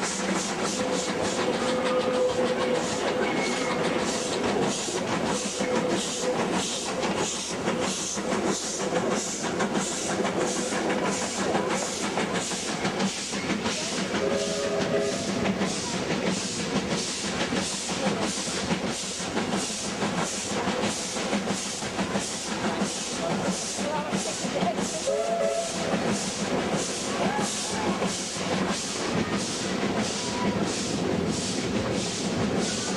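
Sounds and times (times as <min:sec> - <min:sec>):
continuous steam hiss: 0:00.0 - 0:32.9
steam locomotive exhaust chuffing: 0:00.0 - 0:32.9.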